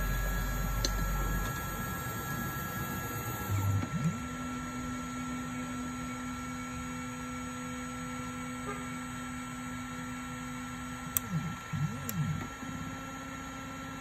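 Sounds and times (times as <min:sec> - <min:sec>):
stepper motors humming: 0:00.0 - 0:07.4, 0:08.0 - 0:14.0.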